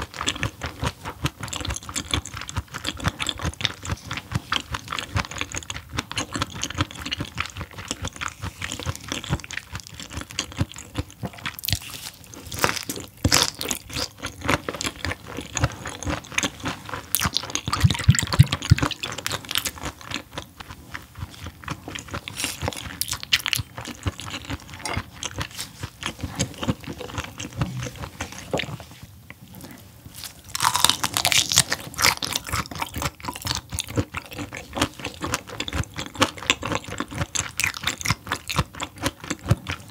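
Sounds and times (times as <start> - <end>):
chewing and crunching raw fish: 0.0 - 39.9.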